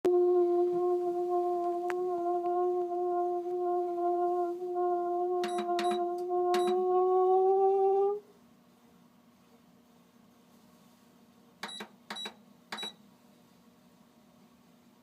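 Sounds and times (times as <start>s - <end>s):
fan heater humming: 0.1s - 15.0s.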